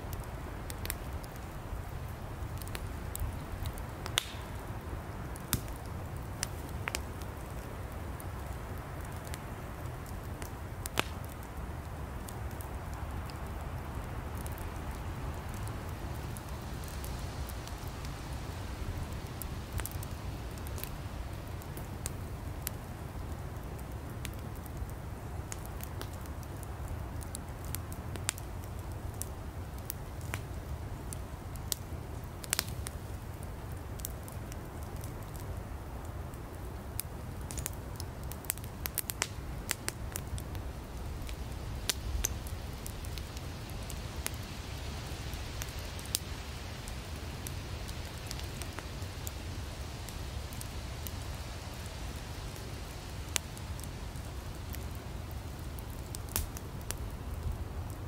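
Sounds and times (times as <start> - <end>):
firewood crackling and popping: 0.0 - 58.0
low rumble of flames: 0.0 - 58.0.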